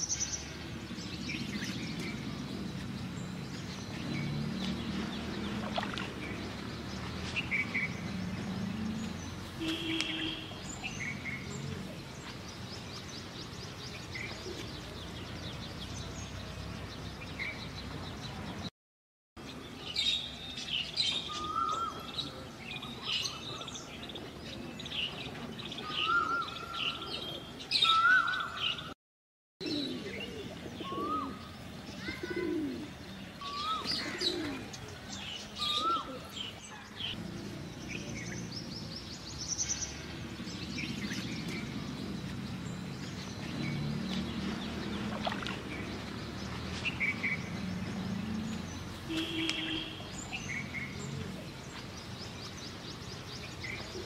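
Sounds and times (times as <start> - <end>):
birds chirping: 0.0 - 18.7, 19.4 - 29.0, 29.6 - 54.0.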